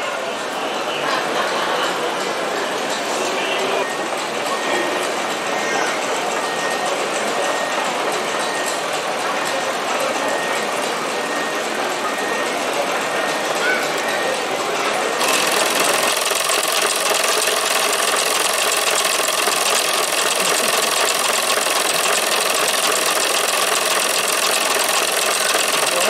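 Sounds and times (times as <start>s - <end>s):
steam engine chuffing: 3.9s - 26.0s.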